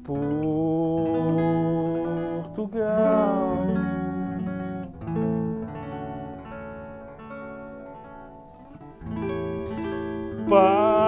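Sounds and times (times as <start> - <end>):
archtop guitar chords plucked: 0.0 - 11.0.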